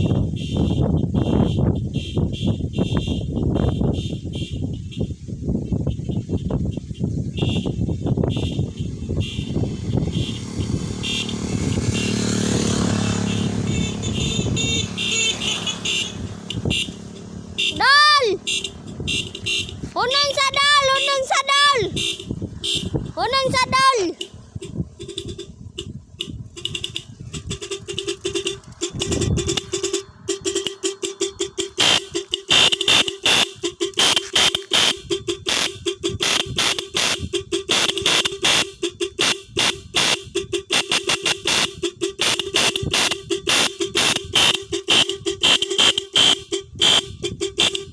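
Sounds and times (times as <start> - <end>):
electric horn honks: 7.4 - 21.3, 21.9 - 23.1, 24.2 - 47.9
steady buzzing tone: 7.4 - 23.6, 24.2 - 47.9.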